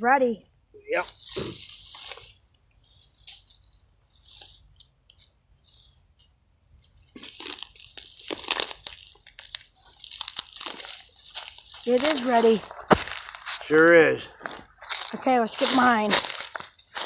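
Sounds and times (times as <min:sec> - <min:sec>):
dry leaves rustling and crackling: 0:00.9 - 0:17.0.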